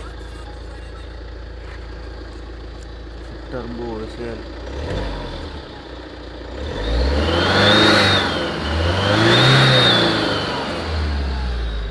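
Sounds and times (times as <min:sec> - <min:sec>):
diesel engine revving: 0:00.0 - 0:11.9.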